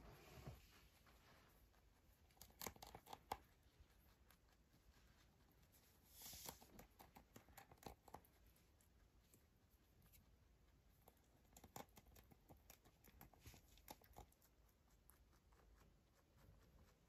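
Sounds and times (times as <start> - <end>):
rabbit crunching cabbage leaf: 0.6 - 17.0.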